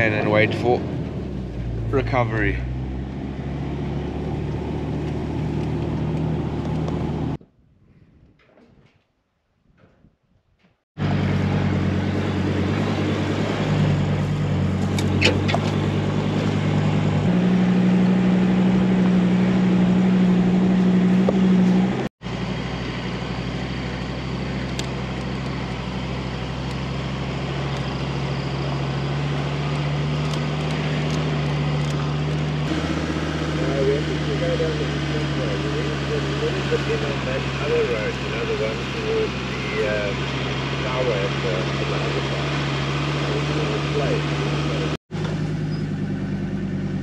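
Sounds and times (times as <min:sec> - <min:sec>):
diesel engine droning: 0:00.0 - 0:07.4, 0:11.0 - 0:47.0.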